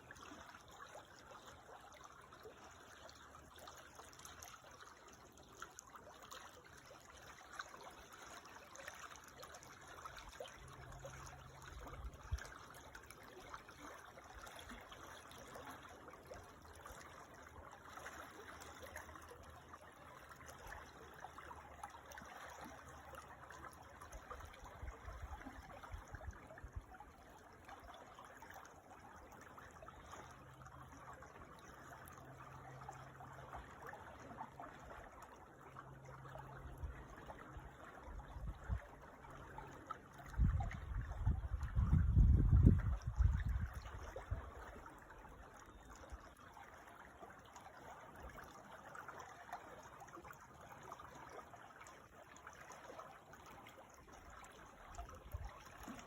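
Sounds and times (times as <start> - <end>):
creek water trickling: 0.0 - 56.0.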